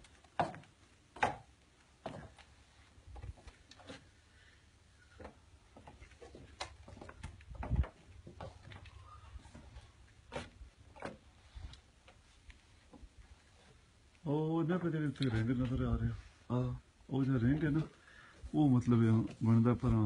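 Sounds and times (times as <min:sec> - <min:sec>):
footsteps on porch floor: 0:00.0 - 0:04.2, 0:05.0 - 0:20.0.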